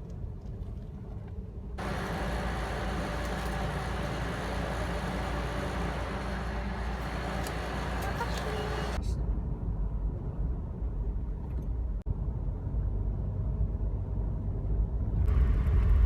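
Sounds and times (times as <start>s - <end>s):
low vehicle rumble: 0.0s - 16.0s
traffic noise: 0.0s - 16.0s.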